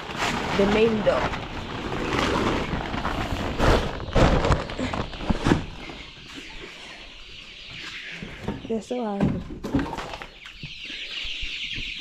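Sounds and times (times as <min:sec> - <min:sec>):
faint chickens: 0:00.1 - 0:12.0.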